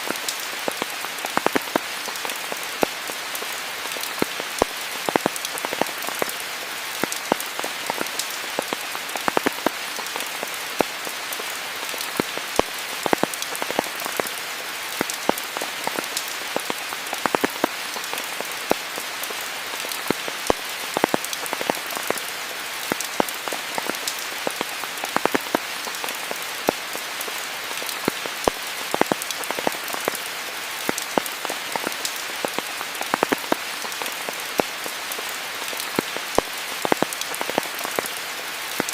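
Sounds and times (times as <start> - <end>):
raindrops tapping close by: 0.0 - 38.9
steady rain hiss: 0.0 - 38.9.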